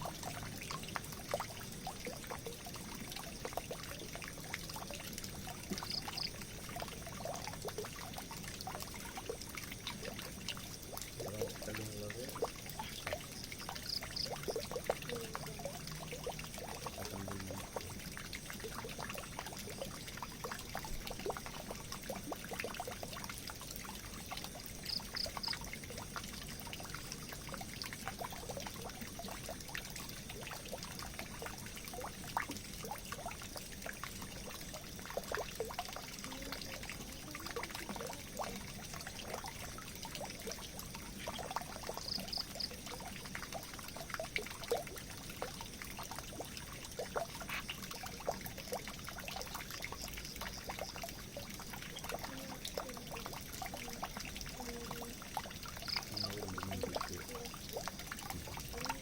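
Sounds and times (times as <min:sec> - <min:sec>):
water dripping and gurgling: 0:00.0 - 0:59.0
water trickling into a drain: 0:00.0 - 0:59.0.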